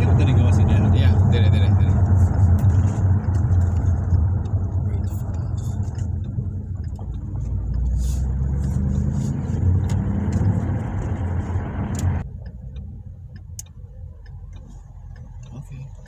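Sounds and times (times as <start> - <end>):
car engine drone from inside cabin: 0.0 - 16.0.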